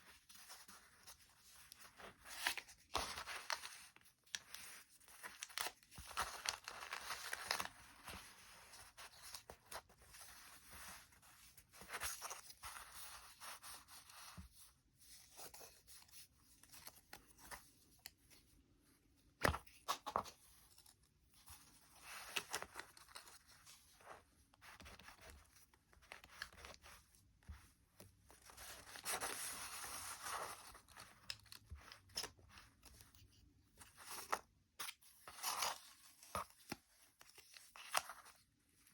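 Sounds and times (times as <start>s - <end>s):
paper rustling and crinkling: 0.0s - 17.7s, 19.4s - 38.9s.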